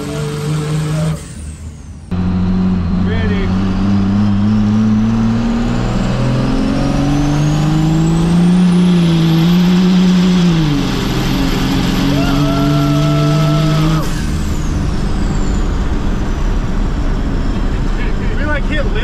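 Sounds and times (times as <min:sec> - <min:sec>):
diesel engine accelerating: 0:00.0 - 0:19.0.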